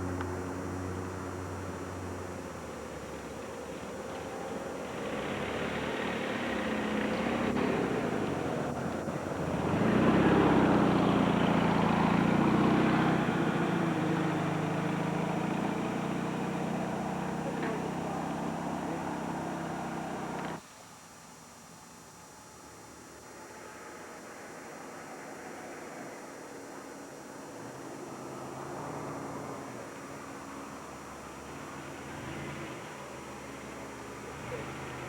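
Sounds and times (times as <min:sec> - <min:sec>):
engine passing by: 0:00.0 - 0:20.6, 0:27.5 - 0:35.0.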